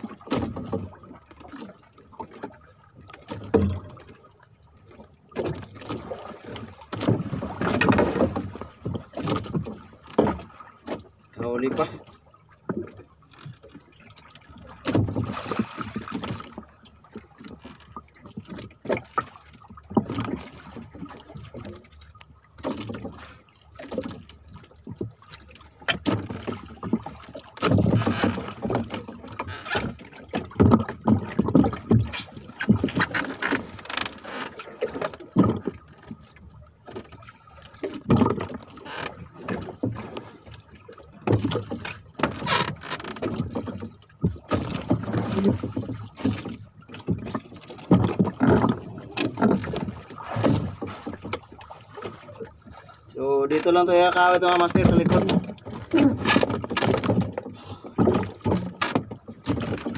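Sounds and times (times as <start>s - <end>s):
knocks and rustles of fishing gear: 0.0s - 4.2s, 4.9s - 11.1s, 12.7s - 52.9s, 53.5s - 59.9s
water lapping at boat hull: 0.0s - 59.9s.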